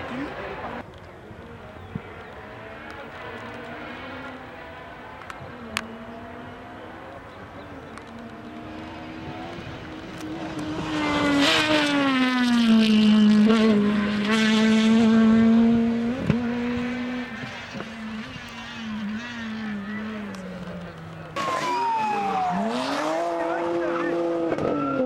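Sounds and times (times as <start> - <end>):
rally car engine passing by: 2.0 - 25.0.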